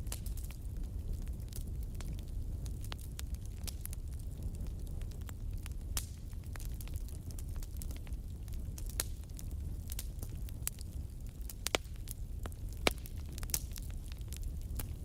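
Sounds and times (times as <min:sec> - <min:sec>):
burning wood popping and snapping: 0:00.0 - 0:15.0
low rumble of flames: 0:00.0 - 0:15.0.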